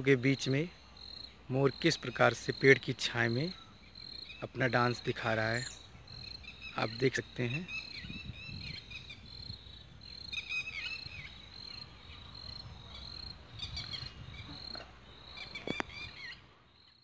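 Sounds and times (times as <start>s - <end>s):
insect chirping: 0.0s - 17.0s
small birds twittering: 0.0s - 17.0s.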